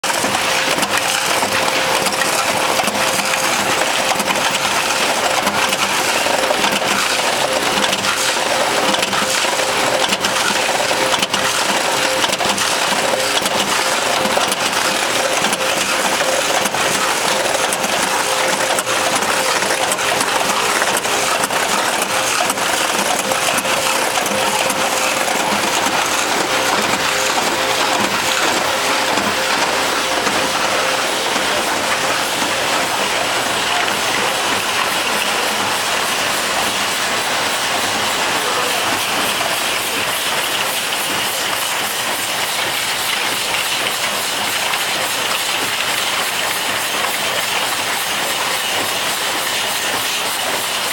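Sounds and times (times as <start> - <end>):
steady machine noise: 0.0 - 50.9.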